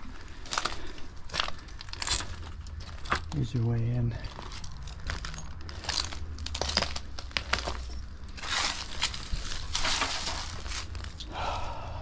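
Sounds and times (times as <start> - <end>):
footsteps crunching over rubble: 0.0 - 11.3.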